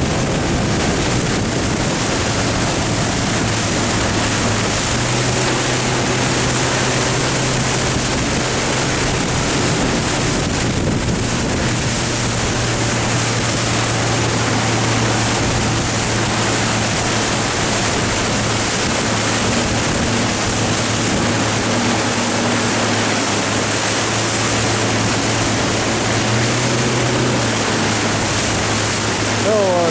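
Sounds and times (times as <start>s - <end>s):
boat jet engine hum: 0.0s - 29.9s
rush of water and wind: 0.0s - 29.9s.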